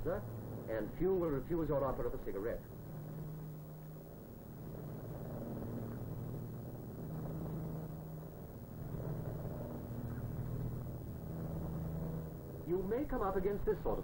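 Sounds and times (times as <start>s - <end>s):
propeller engines droning: 0.0s - 14.0s.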